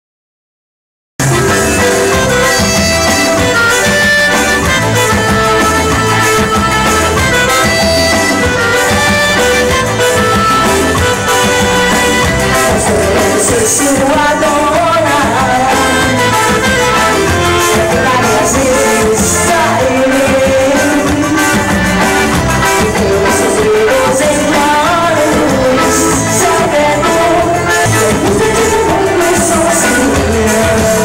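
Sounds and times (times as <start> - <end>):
band music with low beat: 1.2 - 31.0.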